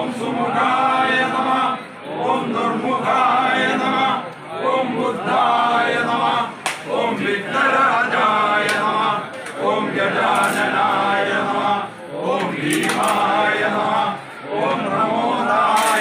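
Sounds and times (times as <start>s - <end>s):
men chanting together: 0.0s - 16.0s.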